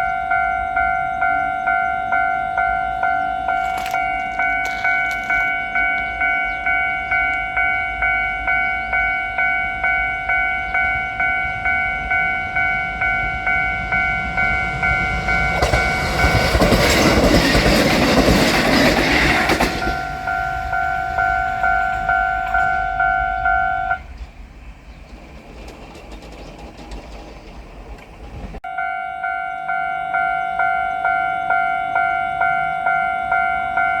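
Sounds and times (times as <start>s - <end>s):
level-crossing warning bell: 0.0s - 24.1s, 28.6s - 34.0s
train passing loudly: 0.0s - 34.0s.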